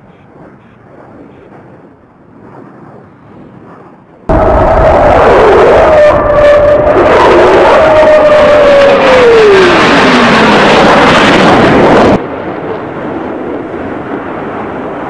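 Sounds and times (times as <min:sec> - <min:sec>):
jet passing overhead: 0:00.3 - 0:15.0.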